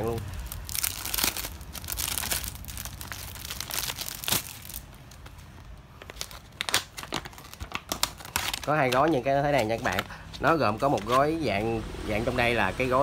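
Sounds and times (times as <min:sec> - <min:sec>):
foil pouch crinkling: 0:00.0 - 0:11.4.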